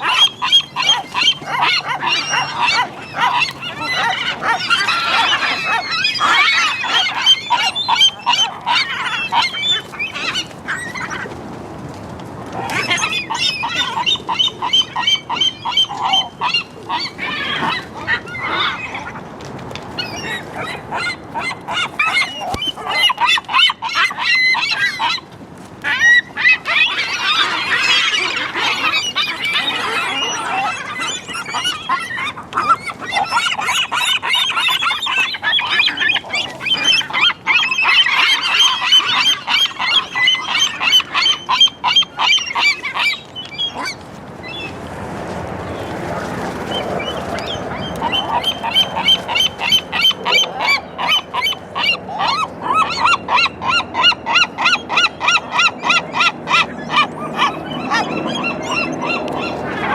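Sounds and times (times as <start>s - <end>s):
gulls squawking and calling: 0.0s - 11.4s, 12.5s - 19.2s, 20.0s - 44.8s, 45.7s - 59.9s.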